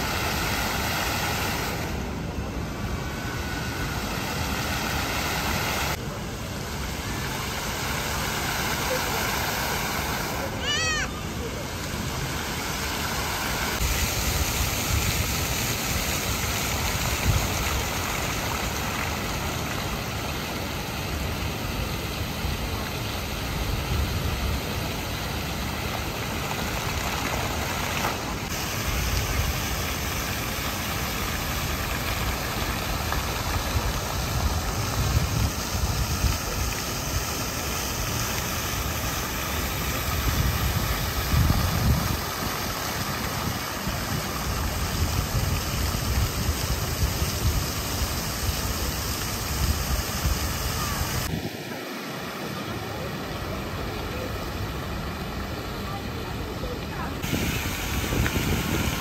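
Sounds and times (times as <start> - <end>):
fountain water jets splashing: 0.0 - 59.0.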